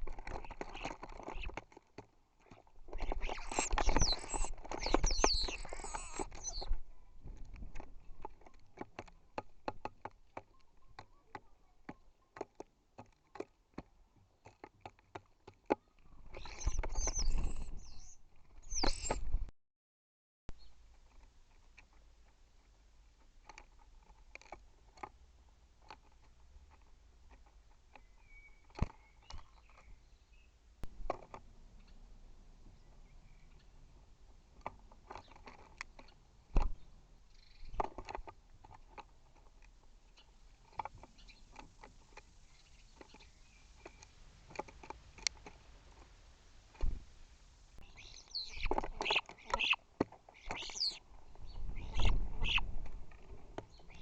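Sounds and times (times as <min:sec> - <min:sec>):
birds pecking and tapping: 0:00.0 - 0:19.4, 0:20.6 - 0:30.2, 0:30.8 - 0:32.0, 0:32.7 - 0:47.0, 0:47.8 - 0:54.0.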